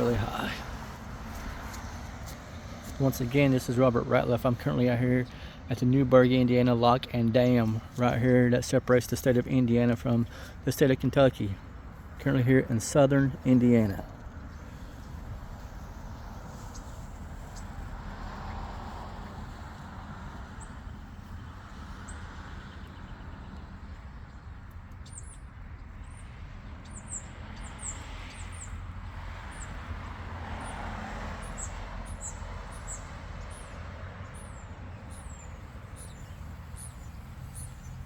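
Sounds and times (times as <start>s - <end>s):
small birds chirping: 0.0s - 18.0s, 18.8s - 38.0s.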